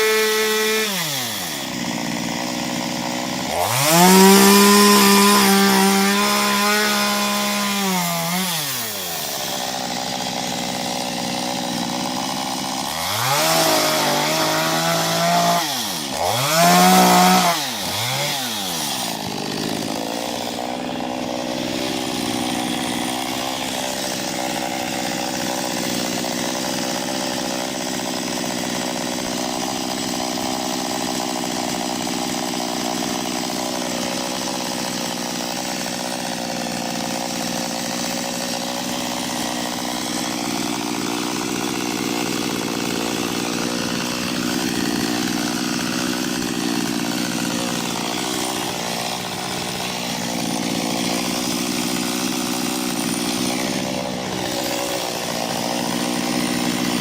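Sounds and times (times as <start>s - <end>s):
chainsaw revving and idling: 0.0s - 57.0s.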